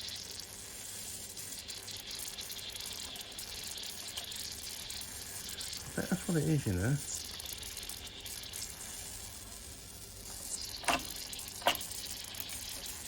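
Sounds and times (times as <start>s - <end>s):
steam hissing from boiler: 0.0s - 13.0s.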